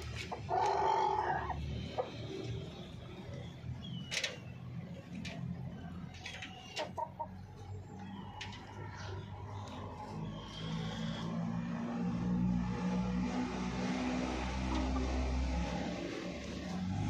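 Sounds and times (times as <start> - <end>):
chickens chirping and clucking: 0.0 - 12.9, 13.7 - 17.0.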